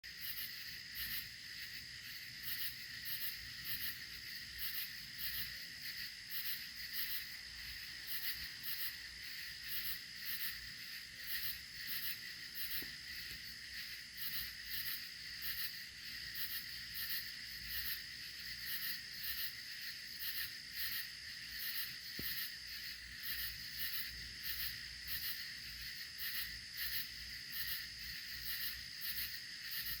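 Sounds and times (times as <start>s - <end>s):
crickets trilling: 0.0s - 30.0s
sharp high insect chirp: 0.1s - 30.0s.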